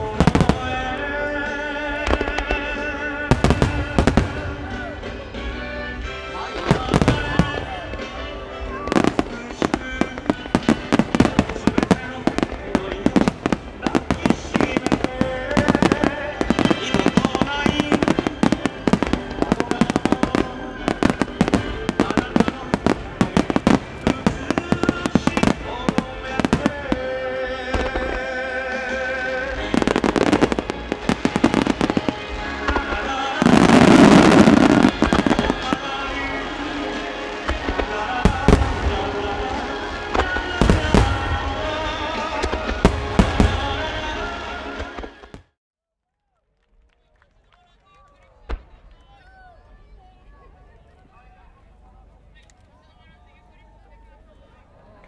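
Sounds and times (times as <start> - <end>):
firework bangs: 0.0 - 5.5, 6.4 - 45.5
song with singing voice: 0.0 - 45.5
background music: 0.0 - 45.6.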